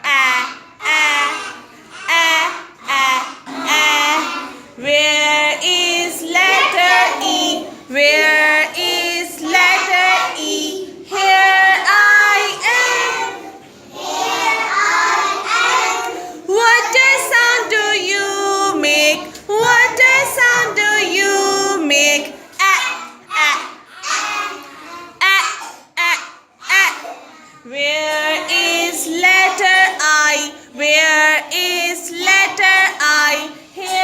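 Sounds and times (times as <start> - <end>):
child singing: 0.0 - 34.0.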